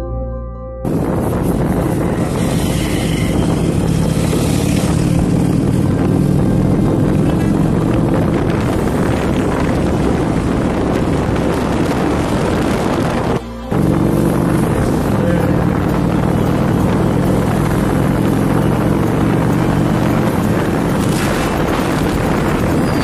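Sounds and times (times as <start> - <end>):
wind on microphone: 0.8 - 23.0
motorcycle engine running: 0.9 - 23.0.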